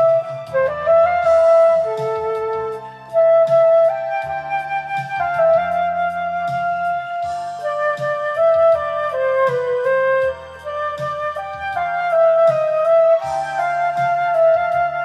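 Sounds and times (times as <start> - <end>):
flute playing legato melody: 0.0 - 15.0
karaoke backing track: 0.0 - 15.0.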